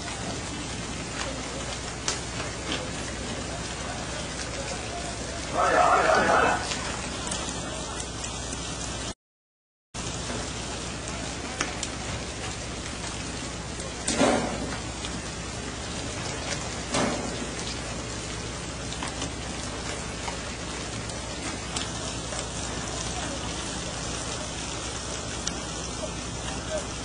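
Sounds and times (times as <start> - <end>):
sea water rushing along boat: 0.0 - 9.1, 10.0 - 27.0.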